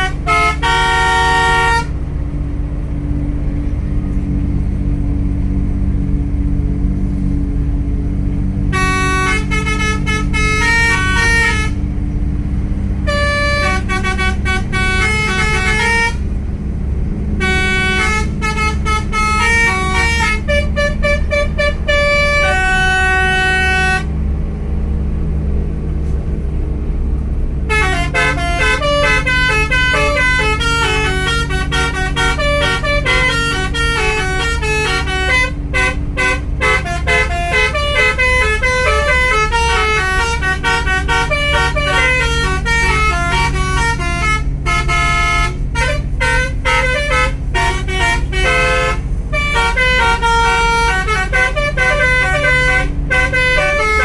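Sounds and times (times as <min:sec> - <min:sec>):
bus musical horn melody: 0:00.0 - 0:03.7, 0:08.0 - 0:24.7, 0:26.0 - 0:54.0
bus engine drone: 0:00.0 - 0:54.0.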